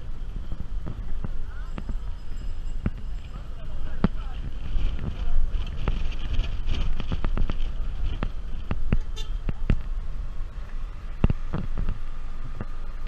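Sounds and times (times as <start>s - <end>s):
vehicle rumbling slowly: 0.0s - 13.0s.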